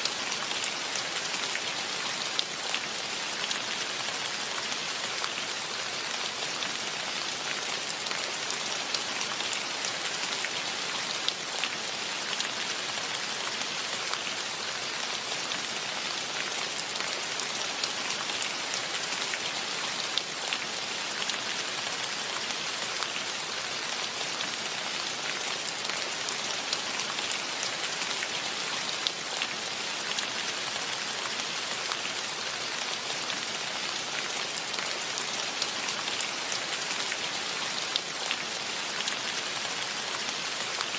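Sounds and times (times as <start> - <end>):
rain on leaves and ground: 0.0 - 40.9.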